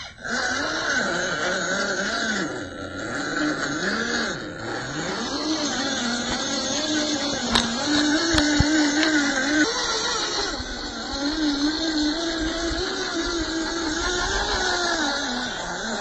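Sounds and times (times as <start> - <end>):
electric motor and gearbox whining: 0.0 - 16.0.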